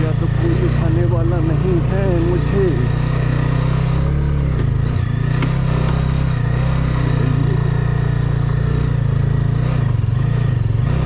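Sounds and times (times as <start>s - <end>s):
motorcycle engine running on gravel: 0.0s - 11.0s.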